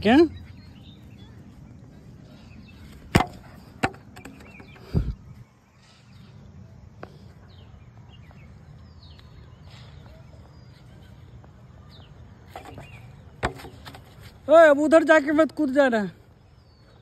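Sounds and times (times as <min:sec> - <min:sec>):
open-field background hum: 0:00.0 - 0:17.0.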